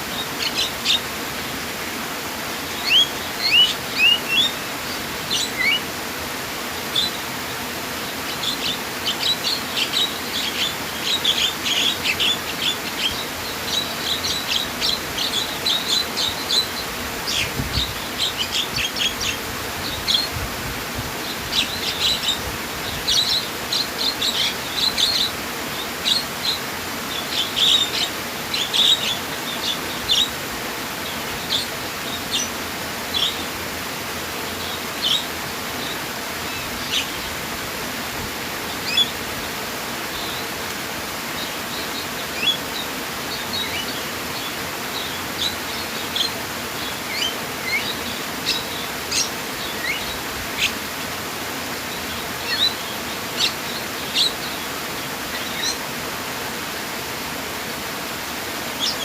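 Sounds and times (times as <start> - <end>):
flowing water rushing: 0.0 - 59.0
songbirds chirping: 0.0 - 59.0.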